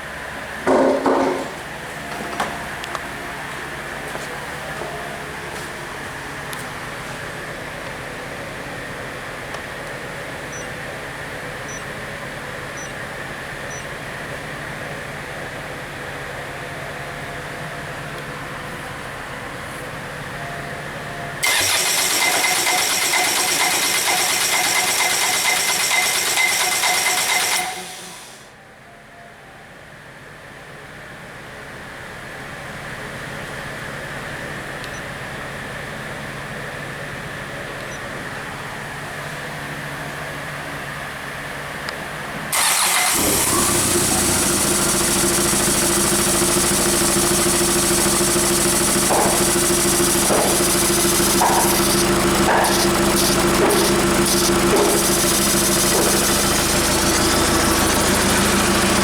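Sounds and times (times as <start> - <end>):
diesel engine running: 0.0 - 28.5, 32.6 - 59.0.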